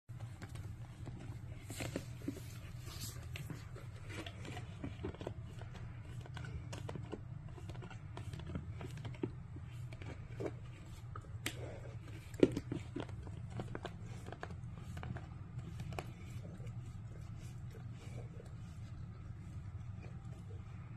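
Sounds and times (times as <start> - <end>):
dog gnawing and crunching: 0.1 - 20.9
low steady hum: 0.1 - 20.9.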